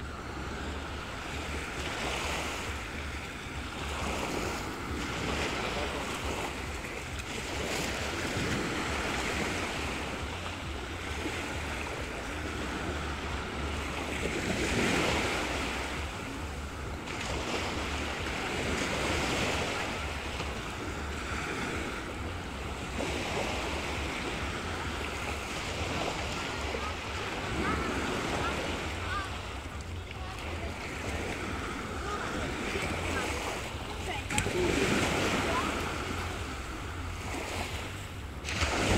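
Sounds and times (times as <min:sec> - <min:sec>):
waves washing onto sand: 0:00.0 - 0:38.9
wind rumble on microphone: 0:00.0 - 0:38.9.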